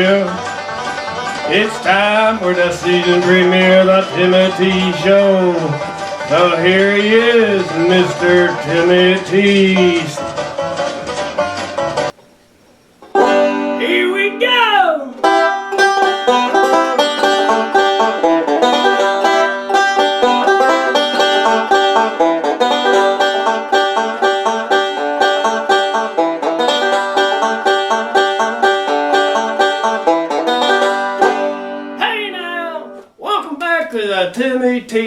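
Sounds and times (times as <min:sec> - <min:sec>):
banjo picking: 0:00.0 - 0:12.2, 0:12.8 - 0:33.1.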